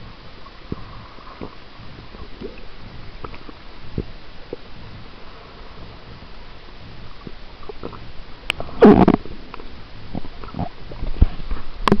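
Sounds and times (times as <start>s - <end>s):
low underwater rumble: 0.0s - 12.0s
underwater clicks and knocks: 0.4s - 5.0s, 6.8s - 12.0s.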